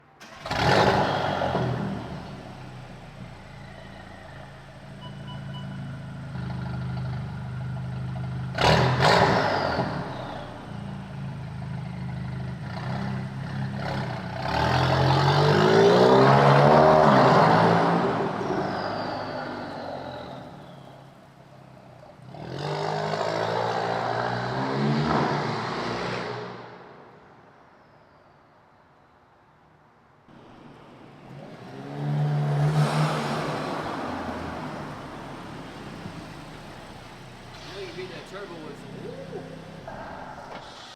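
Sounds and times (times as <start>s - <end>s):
car engine revving: 0.2s - 27.0s, 30.3s - 40.9s.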